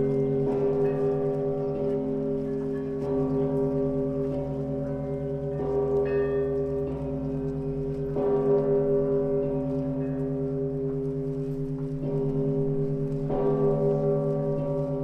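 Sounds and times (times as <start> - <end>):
deep church bell ringing: 0.0 - 15.0.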